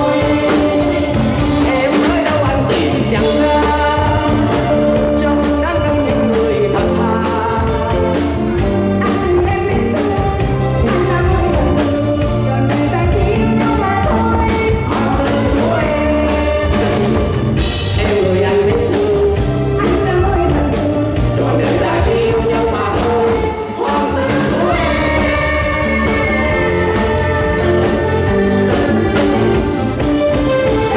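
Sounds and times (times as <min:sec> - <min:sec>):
man and woman singing duet: 0:00.0 - 0:29.9
live band playing: 0:00.0 - 0:30.9.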